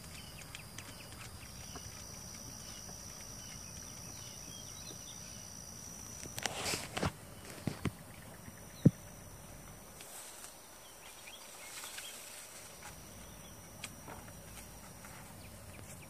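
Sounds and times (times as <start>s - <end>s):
faint outdoor background: 0.0s - 16.0s.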